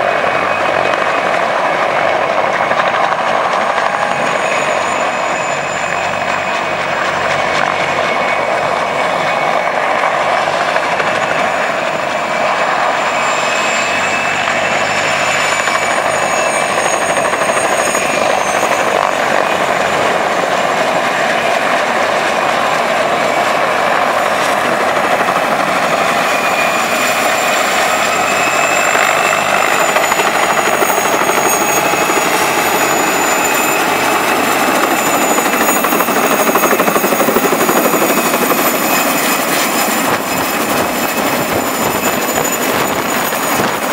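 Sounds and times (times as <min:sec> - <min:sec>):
helicopter hovering: 0:00.0 - 0:43.9.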